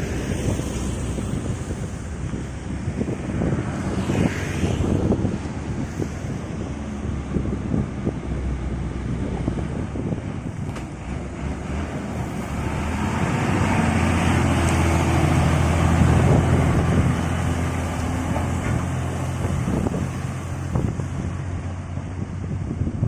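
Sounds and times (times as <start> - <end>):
truck diesel engine driving past: 0.0 - 22.8
wind buffeting microphone: 0.0 - 23.0.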